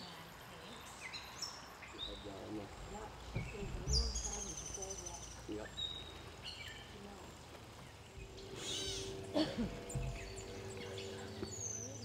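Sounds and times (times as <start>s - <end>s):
songbirds chirping: 0.0s - 12.0s
low steady hum: 1.8s - 12.0s.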